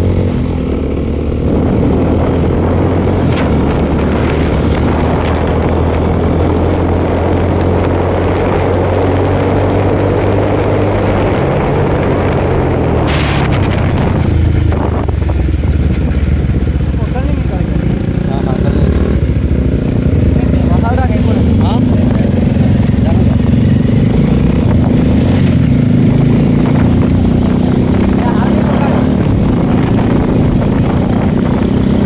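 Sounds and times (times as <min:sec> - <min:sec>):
motorcycle approaching: 0:00.0 - 0:32.0
motorcycle engines cruising: 0:00.0 - 0:32.0.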